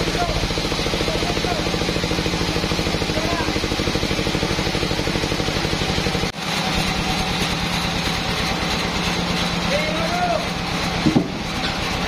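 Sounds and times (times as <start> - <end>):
sawmill machinery chugging: 0.0 - 12.0.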